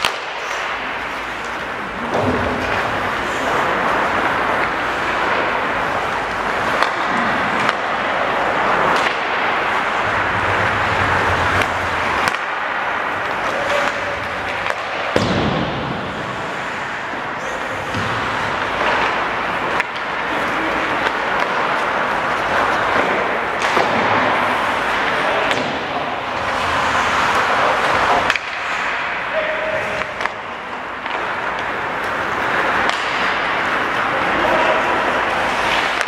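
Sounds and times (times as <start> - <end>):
hockey sticks knocking puck: 0.0 - 36.0
skates scraping on ice: 0.0 - 36.0.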